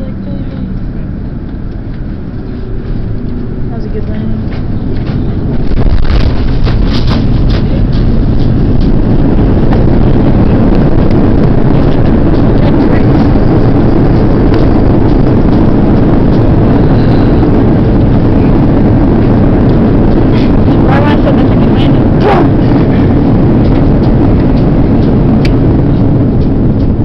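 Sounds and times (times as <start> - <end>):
jet engine roar: 0.0 - 27.0
wheels rumbling on runway: 0.0 - 27.0.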